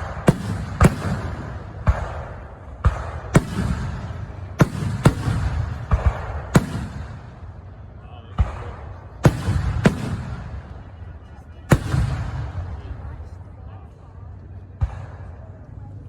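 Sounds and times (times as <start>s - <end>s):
low rumbling echo: 0.0s - 16.0s.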